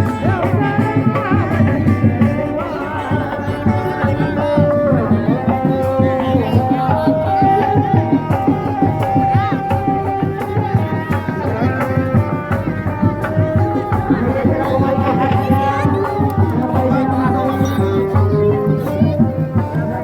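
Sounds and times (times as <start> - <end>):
hand drums in busy rhythm: 0.0 - 20.0.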